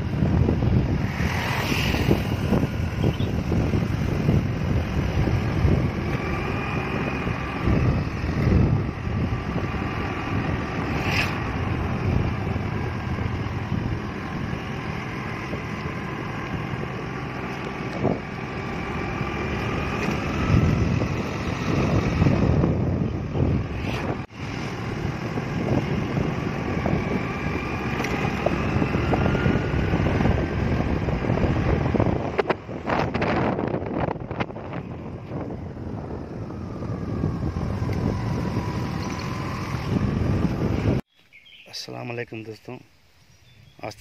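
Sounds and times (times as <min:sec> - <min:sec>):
motorcycle engine running: 0:00.0 - 0:41.0
wind buffeting microphone: 0:00.0 - 0:41.6.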